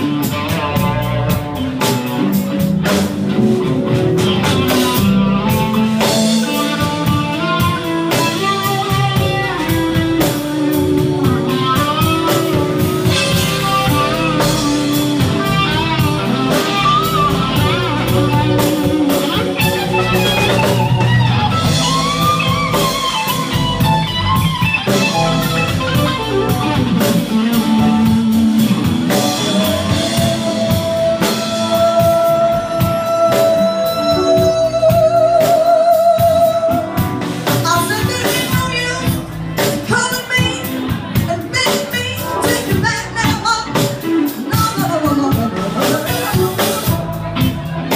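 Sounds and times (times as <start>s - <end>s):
electric guitar lead with bent notes: 0.0s - 47.9s
live rock band playing: 0.0s - 47.9s.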